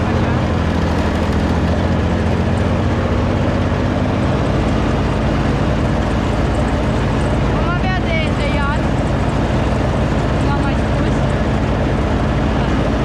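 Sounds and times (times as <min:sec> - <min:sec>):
riding lawn mower engine drone: 0:00.0 - 0:13.0.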